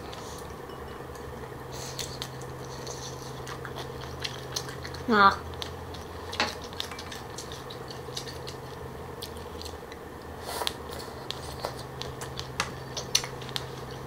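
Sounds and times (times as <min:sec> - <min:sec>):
steady low hum: 0:00.0 - 0:14.0
crisp chewing crunches: 0:01.8 - 0:14.0.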